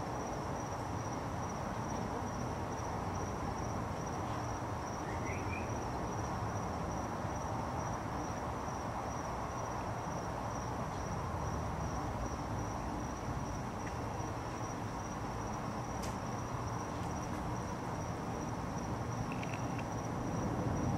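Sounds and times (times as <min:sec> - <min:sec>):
low background noise: 0:00.0 - 0:20.9
high-pitched insect trill: 0:00.2 - 0:20.9.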